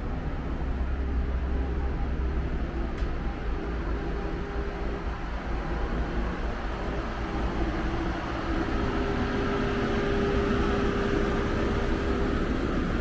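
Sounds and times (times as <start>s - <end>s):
train car mechanical hum: 0.0s - 13.0s.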